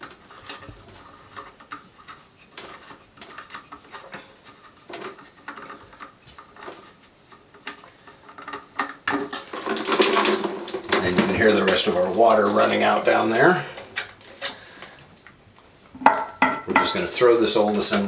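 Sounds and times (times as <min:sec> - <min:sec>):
plastic parts clicking and scraping: 0:00.0 - 0:17.0.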